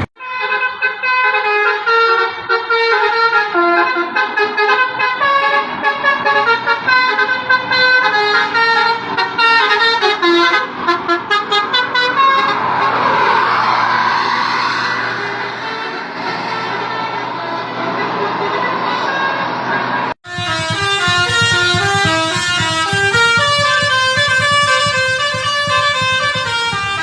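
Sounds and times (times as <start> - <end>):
multi-tone bus air horn tune: 0.0 - 13.2, 14.9 - 27.0.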